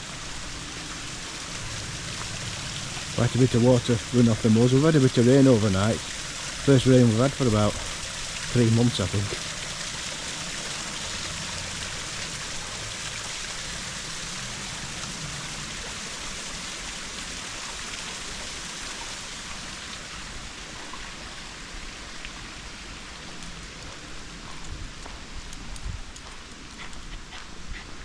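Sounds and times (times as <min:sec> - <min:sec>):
stream running water: 0:00.0 - 0:28.0.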